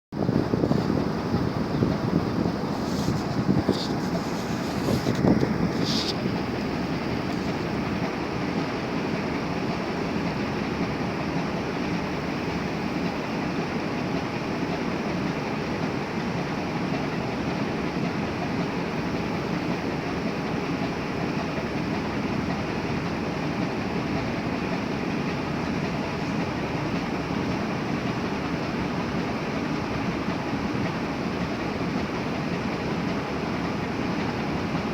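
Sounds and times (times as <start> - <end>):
ship engine rumble: 0.2 - 34.9.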